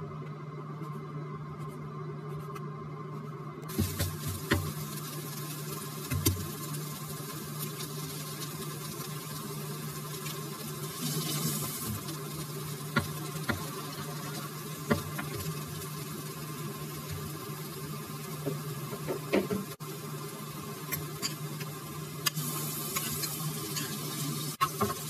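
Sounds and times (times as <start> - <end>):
steady low hum: 0.0 - 25.0
food sizzling in a frying pan: 3.7 - 25.0.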